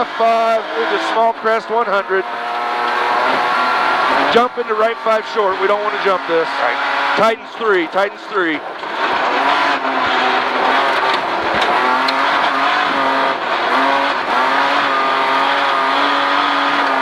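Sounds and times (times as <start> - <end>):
rally car engine at high revs: 0.0 - 17.0
tyre road noise: 0.0 - 17.0.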